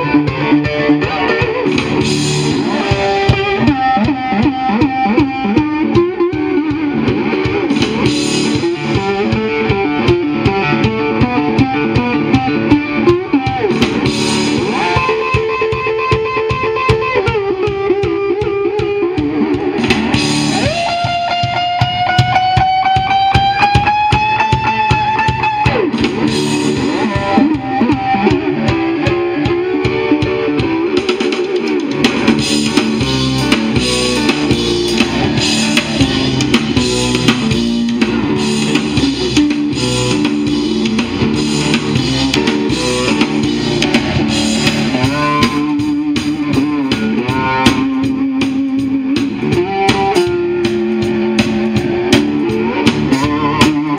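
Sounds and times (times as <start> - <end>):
drums: 0.0 - 53.9
electric guitar: 0.0 - 53.9
live blues band: 0.0 - 53.9.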